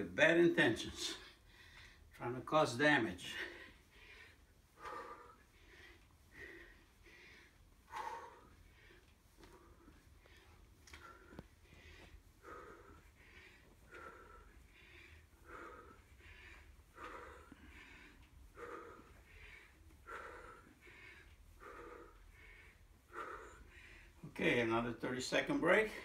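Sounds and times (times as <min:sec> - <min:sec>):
man breathing hard: 0:00.8 - 0:02.2, 0:02.8 - 0:24.4.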